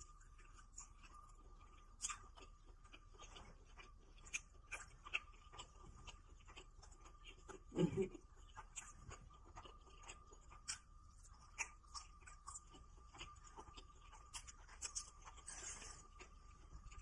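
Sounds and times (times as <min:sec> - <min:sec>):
chewing with mouth closed: 0:00.0 - 0:17.0.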